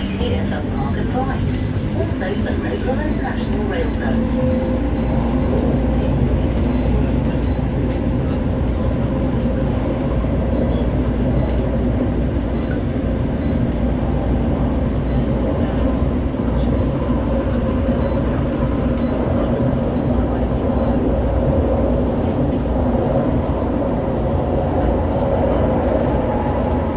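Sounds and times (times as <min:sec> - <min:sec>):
tram wheels rumbling on rail: 0:00.0 - 0:26.9.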